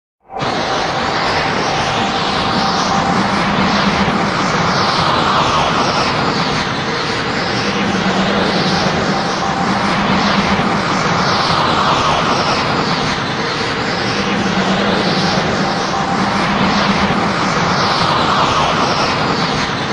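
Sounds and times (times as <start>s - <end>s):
low hum: 0.2s - 19.9s
rushing energy roar: 0.2s - 19.9s.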